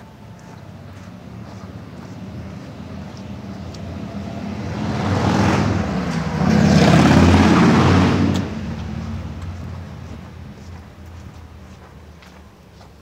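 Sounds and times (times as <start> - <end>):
vehicle driving past: 0.7 - 11.8.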